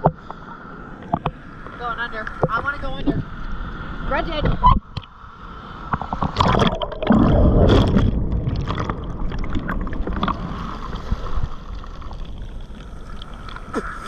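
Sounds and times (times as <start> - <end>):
ocean wave breaking and churning: 0.0 - 14.0.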